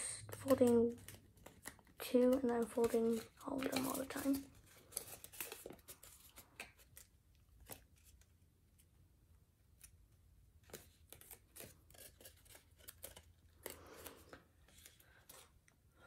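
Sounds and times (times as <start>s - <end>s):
paper being folded and creased: 0.3s - 8.9s, 10.6s - 15.6s.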